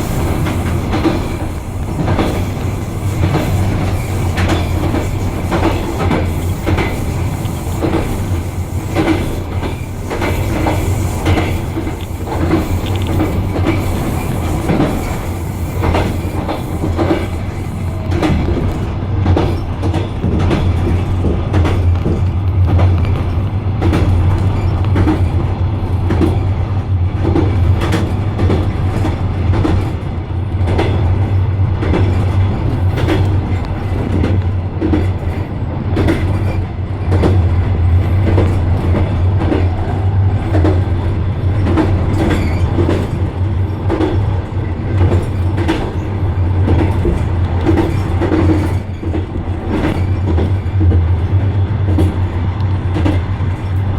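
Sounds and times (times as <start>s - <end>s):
low train rumble: 0.0s - 53.9s
train wheels clattering: 0.0s - 53.9s.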